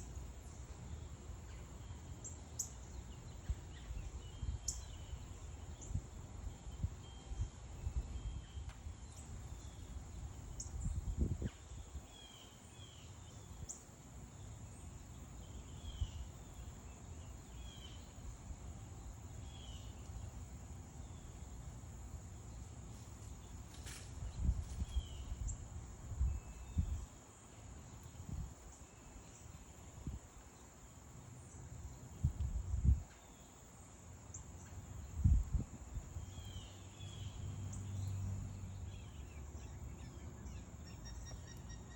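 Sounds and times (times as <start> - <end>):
small birds chirping: 0.0 - 32.2, 32.9 - 41.9.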